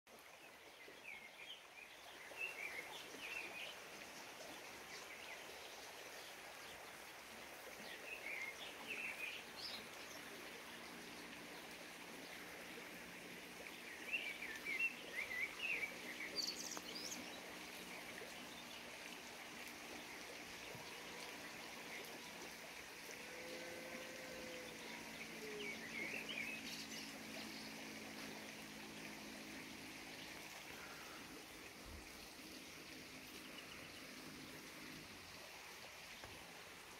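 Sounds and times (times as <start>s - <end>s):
stream rushing: 0.1s - 36.9s
songbirds chirping: 0.2s - 36.9s.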